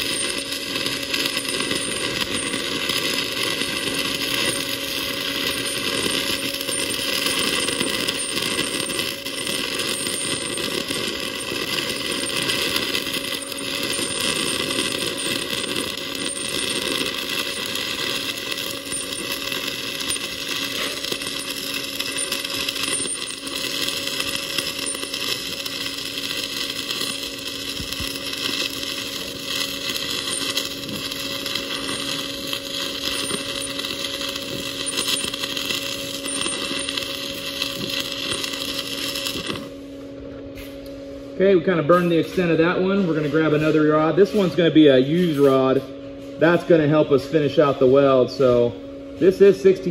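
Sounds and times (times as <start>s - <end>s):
welding arc crackling: 0.0s - 49.9s.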